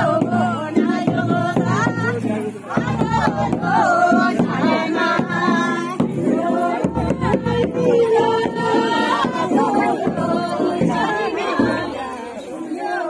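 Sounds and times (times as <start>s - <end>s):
women singing folk song: 0.0s - 13.0s.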